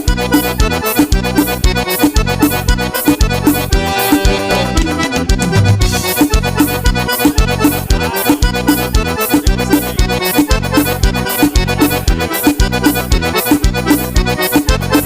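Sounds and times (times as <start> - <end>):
accordion dance music: 0.0 - 15.0
bass and drum beat: 0.0 - 15.0.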